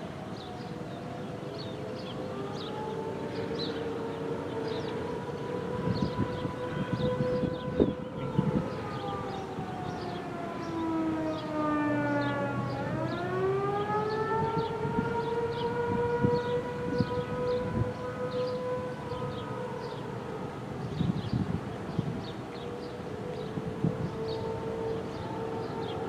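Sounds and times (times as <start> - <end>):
warning siren wailing: 0.0 - 26.0.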